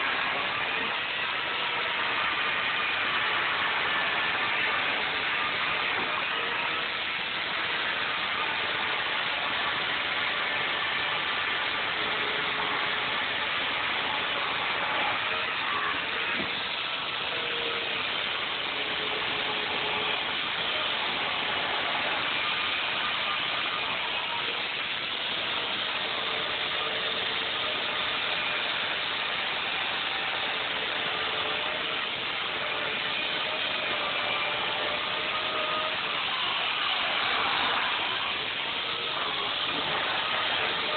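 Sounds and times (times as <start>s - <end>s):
electric chainsaw cutting foam: 0.0s - 40.9s.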